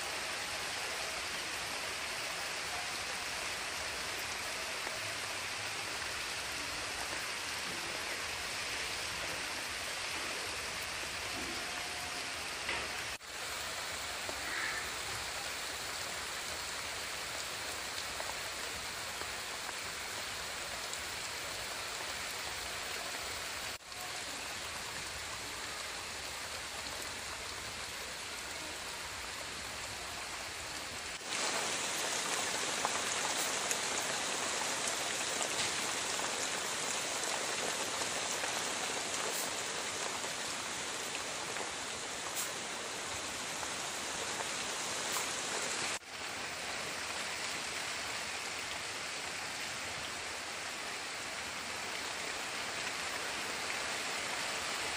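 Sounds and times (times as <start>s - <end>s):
heavy rain on leaves: 0.0s - 54.9s.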